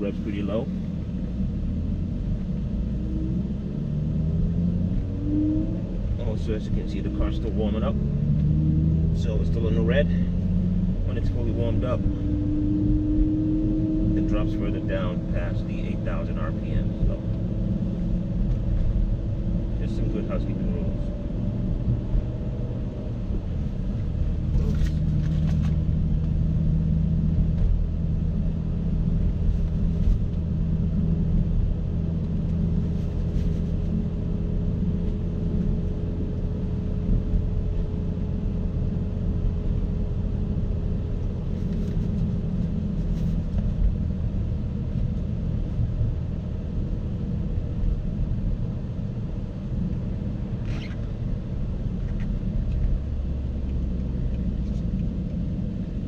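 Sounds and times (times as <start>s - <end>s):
car engine idling at low revs: 0.0s - 5.1s, 5.8s - 13.2s, 13.9s - 56.0s.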